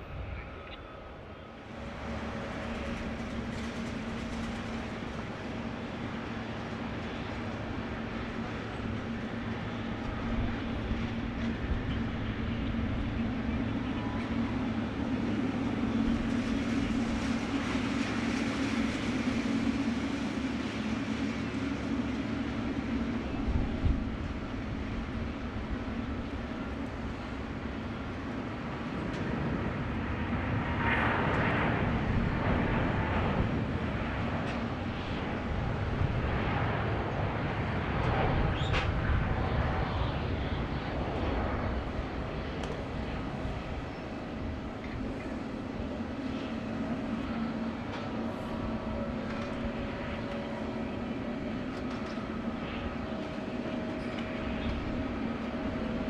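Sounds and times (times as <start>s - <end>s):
jet engines humming and whining: 0.0s - 56.0s.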